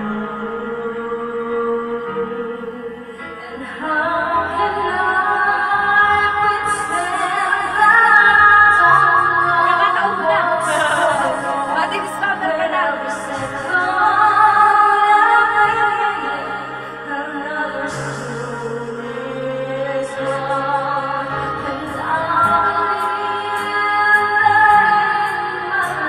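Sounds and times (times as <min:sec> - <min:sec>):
backing track music: 0:00.0 - 0:26.0
woman singing into microphone: 0:00.0 - 0:26.0.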